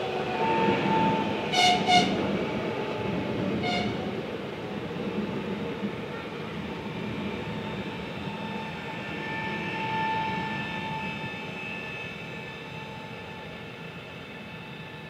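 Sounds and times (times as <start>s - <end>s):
electric train whine: 0.0s - 15.0s
train wheels rumbling on rails: 0.0s - 15.0s.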